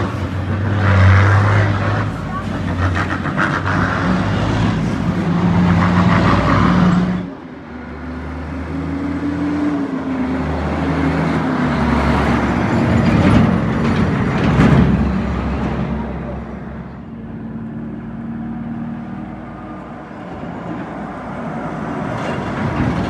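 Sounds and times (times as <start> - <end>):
diesel truck engine passing: 0.0 - 23.0
minibus engine passing: 0.0 - 23.0.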